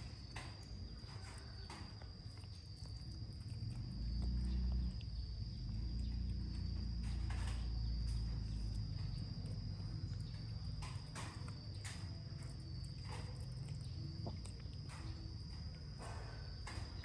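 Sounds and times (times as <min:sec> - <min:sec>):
cat chewing and smacking: 0:00.1 - 0:07.4, 0:08.3 - 0:16.9.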